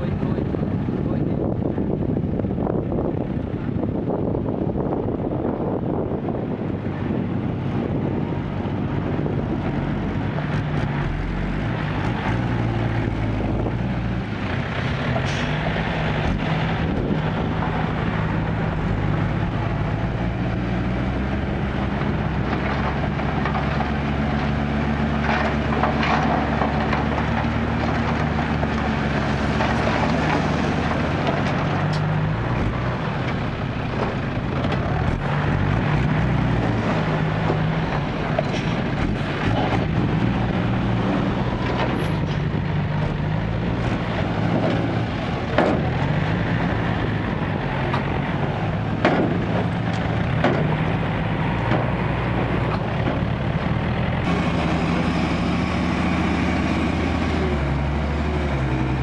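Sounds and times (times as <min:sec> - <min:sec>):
diesel truck engine running: 0:00.0 - 0:59.0
dirt load sliding: 0:06.4 - 0:59.0.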